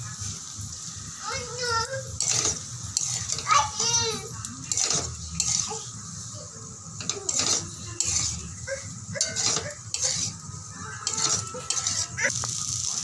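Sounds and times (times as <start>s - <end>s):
metal spoon scraping a wok: 1.9s - 13.0s.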